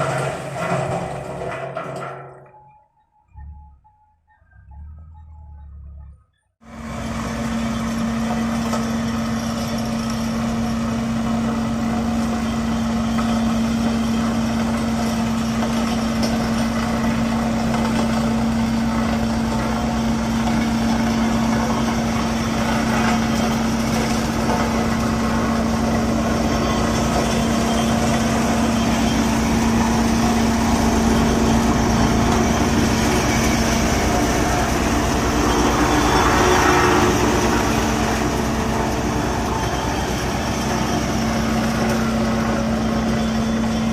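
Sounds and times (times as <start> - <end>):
heavy diesel engine running: 0.0 - 2.2, 3.3 - 43.9.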